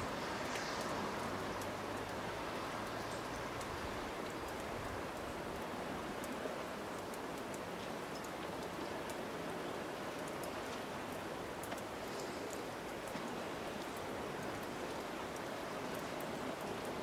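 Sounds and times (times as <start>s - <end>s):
outdoor noise wash: 0.0s - 17.0s
faint high ticks: 0.5s - 9.2s, 10.1s - 17.0s.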